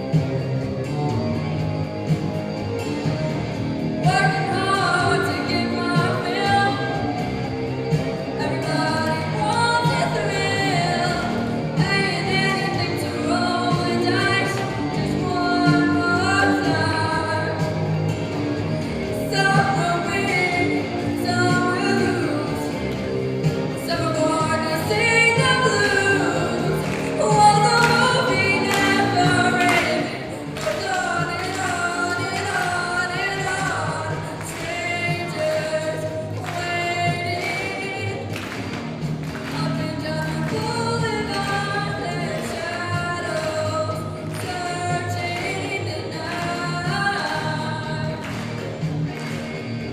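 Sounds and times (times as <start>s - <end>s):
instrumental accompaniment: 0.0s - 49.9s.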